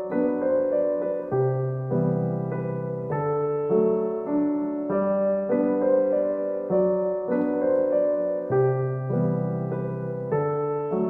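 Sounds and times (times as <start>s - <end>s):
background piano music: 0.0s - 11.0s.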